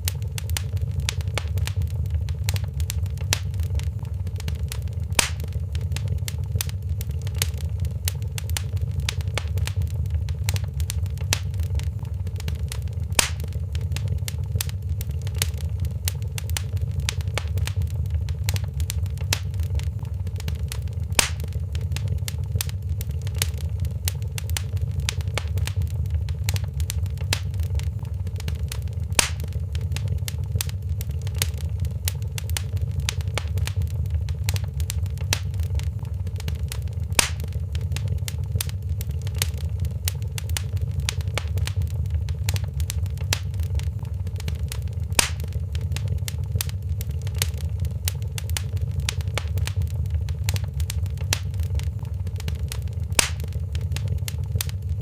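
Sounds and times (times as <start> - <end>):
low rumble: 0.0 - 55.0
sharp fire pops: 0.0 - 55.0
wood fire crackling: 0.0 - 55.0.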